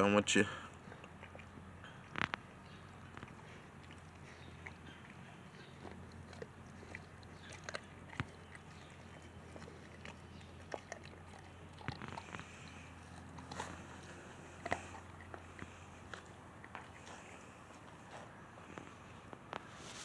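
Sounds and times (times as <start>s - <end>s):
puppy chewing bone: 0.8s - 19.8s.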